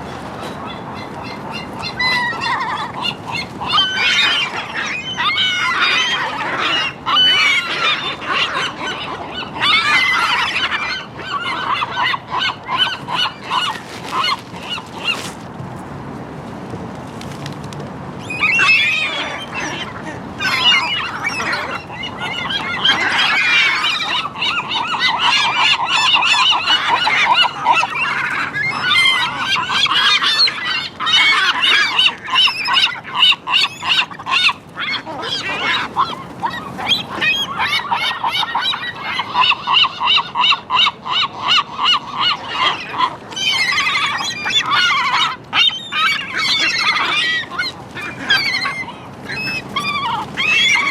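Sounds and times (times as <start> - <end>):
gulls calling: 0.0 - 15.4, 18.2 - 50.9.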